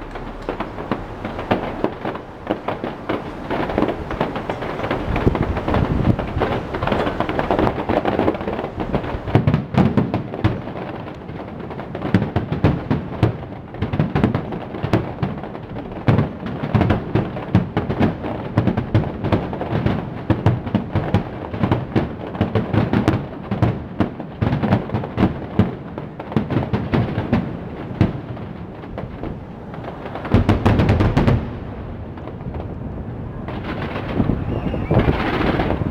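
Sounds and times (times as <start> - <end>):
fireworks exploding: 0.0 - 35.9.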